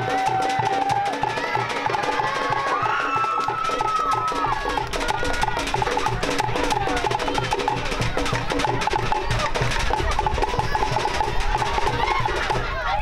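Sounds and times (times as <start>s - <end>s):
bass drum beat: 0.0s - 13.0s
slit-log drums rattling: 0.0s - 13.0s.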